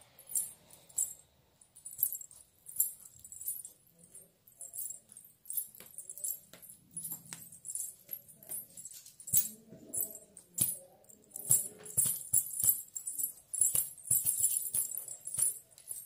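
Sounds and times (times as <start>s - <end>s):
small bells jingling: 0.0s - 16.0s.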